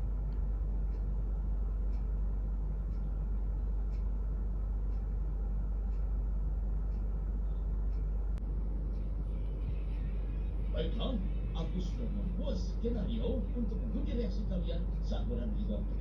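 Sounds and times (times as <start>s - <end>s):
faint ticking: 0.0s - 16.0s
low vehicle rumble: 0.0s - 16.0s.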